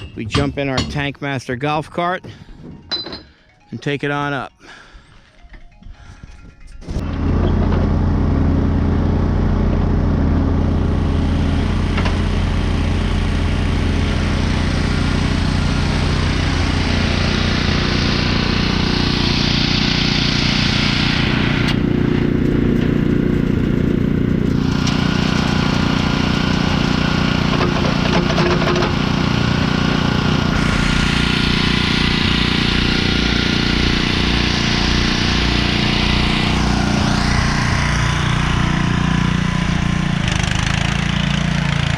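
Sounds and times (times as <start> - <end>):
small combustion engine running: 6.8 - 41.9.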